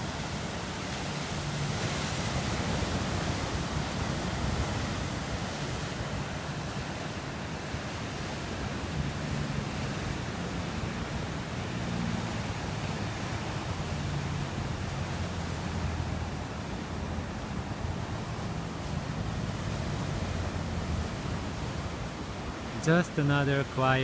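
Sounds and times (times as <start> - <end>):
ocean surf breaking on shore: 0.0 - 24.0.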